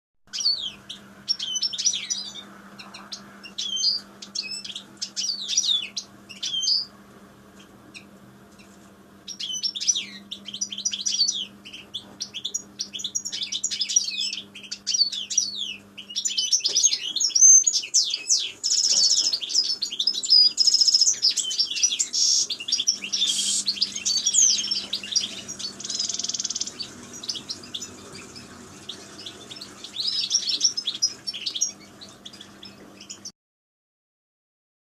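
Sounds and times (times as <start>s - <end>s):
finches twittering: 0.4s - 6.9s, 9.3s - 33.3s.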